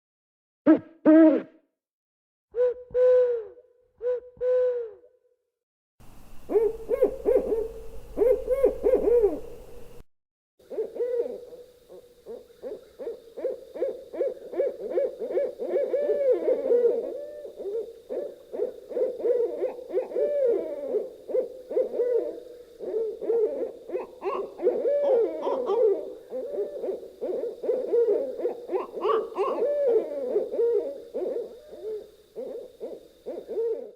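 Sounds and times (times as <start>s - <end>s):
owls hooting: 2.6s - 5.1s, 6.4s - 10.0s, 10.6s - 33.9s.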